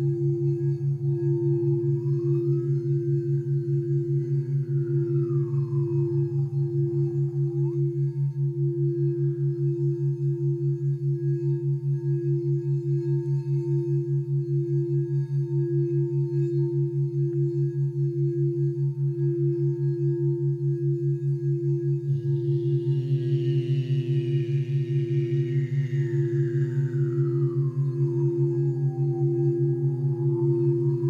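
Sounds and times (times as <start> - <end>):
low beating tone: 0.0 - 31.0
steady higher tone: 0.0 - 31.0.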